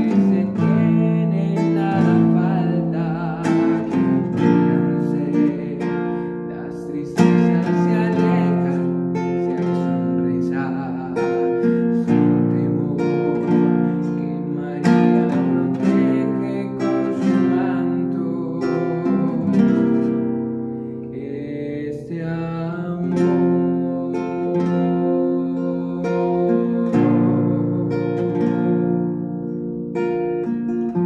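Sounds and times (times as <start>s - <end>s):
man singing ballad: 0.0s - 20.2s, 20.8s - 29.3s
strummed acoustic guitar: 0.0s - 31.0s.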